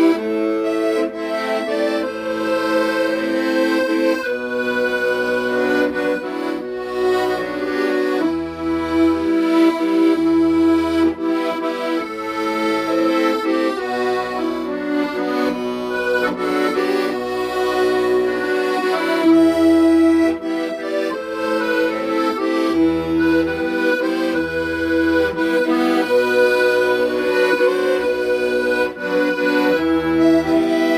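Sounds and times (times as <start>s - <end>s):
accordion playing slow melody: 0.0s - 30.9s
low bass notes: 0.0s - 30.9s.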